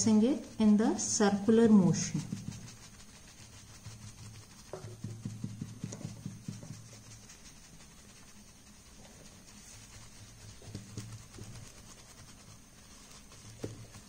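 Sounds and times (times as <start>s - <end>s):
low steady hum: 0.0s - 14.0s
tissue dabbing on paper: 0.0s - 14.0s.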